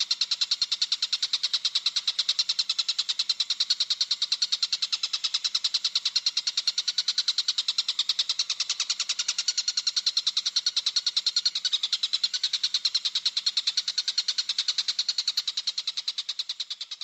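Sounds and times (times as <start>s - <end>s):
lovebird chattering: 0.0s - 17.0s.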